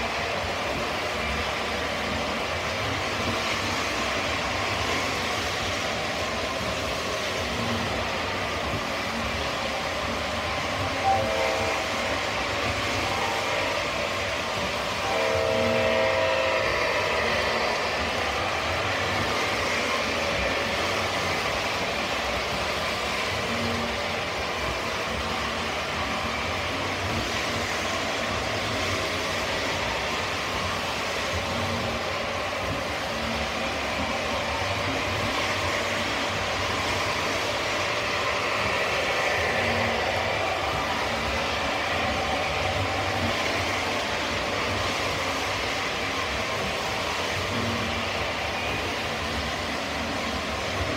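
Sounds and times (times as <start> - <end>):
model trains whirring on rails: 0.0 - 50.9.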